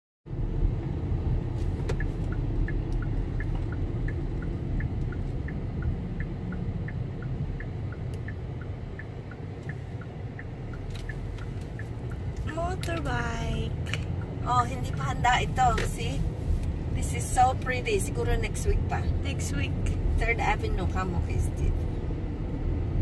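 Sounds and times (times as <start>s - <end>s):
road and engine rumble: 0.3s - 23.0s
turn signal ticking: 0.3s - 23.0s.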